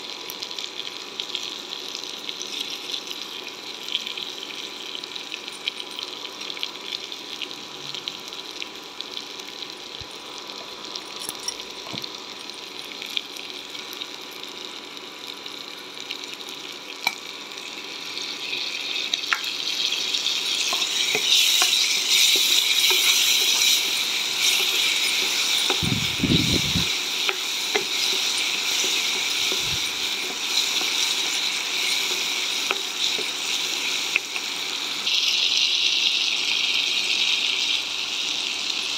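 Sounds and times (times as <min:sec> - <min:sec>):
chillies sizzling in oil: 0:00.0 - 0:38.9.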